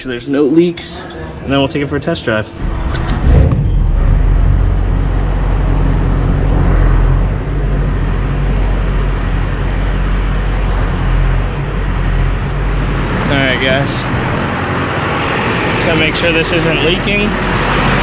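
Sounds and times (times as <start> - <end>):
diesel engine idling: 2.5 - 18.0.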